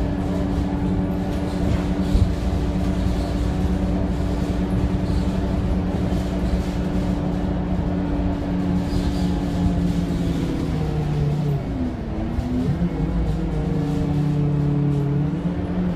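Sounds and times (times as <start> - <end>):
diesel bus engine droning: 0.0 - 15.9.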